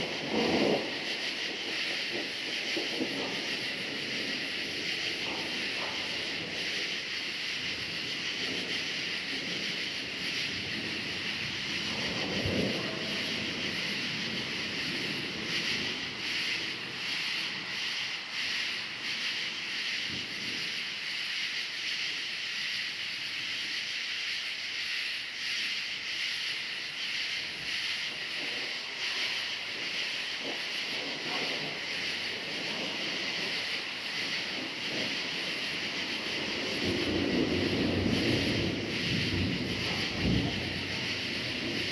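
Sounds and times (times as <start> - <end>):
low rumble of thunder: 0.0 - 21.0, 26.9 - 41.9
crickets chirping: 0.0 - 41.9.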